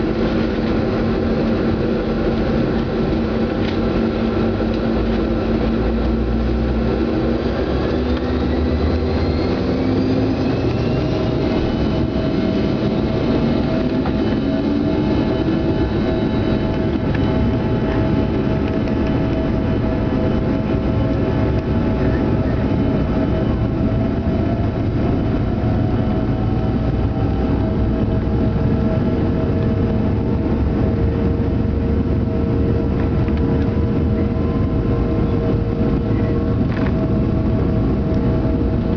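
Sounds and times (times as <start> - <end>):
jet engines spooling up: 0.0 - 38.9
low rumble: 0.0 - 38.9.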